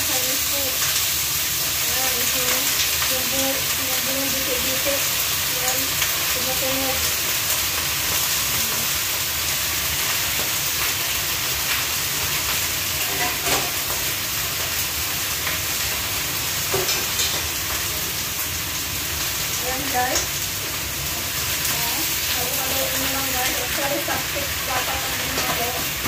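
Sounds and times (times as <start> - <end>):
cabbage sizzling in a wok: 0.0 - 26.0.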